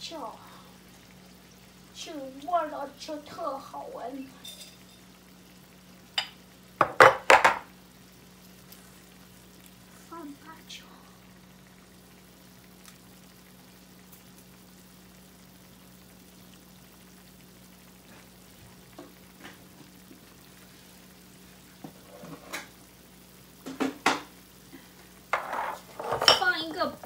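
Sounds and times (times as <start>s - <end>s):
chicken simmering and sizzling: 0.0s - 27.0s.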